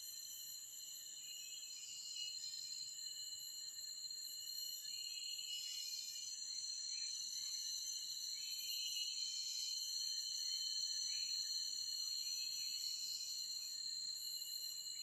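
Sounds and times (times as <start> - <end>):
insects chorus: 0.8 - 15.0.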